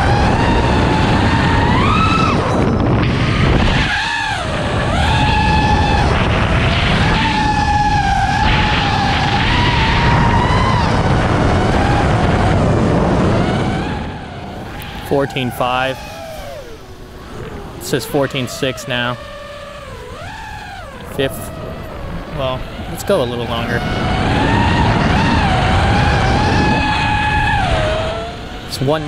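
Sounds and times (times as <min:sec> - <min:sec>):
drone motors whining: 0:00.0 - 0:29.0
low wind rumble: 0:00.0 - 0:29.0.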